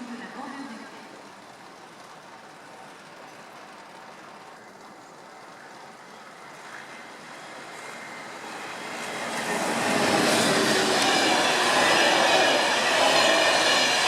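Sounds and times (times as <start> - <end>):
train rushing along track: 0.0 - 14.0.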